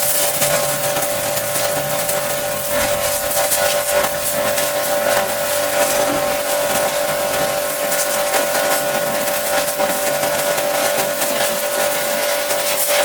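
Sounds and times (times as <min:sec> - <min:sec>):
pressure washer motor whine: 0:00.0 - 0:13.0
water jet hissing: 0:00.0 - 0:13.0.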